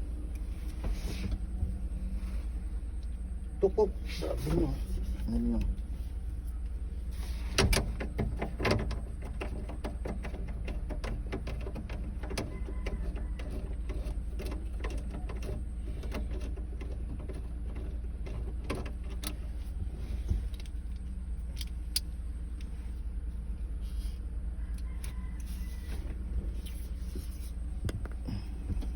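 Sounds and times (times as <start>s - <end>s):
low machine rumble: 0.0s - 28.9s.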